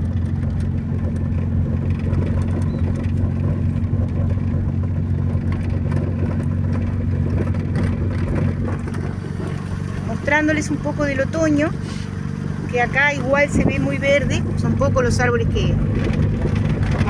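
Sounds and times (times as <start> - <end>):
car driving on dirt road: 0.0 - 17.0.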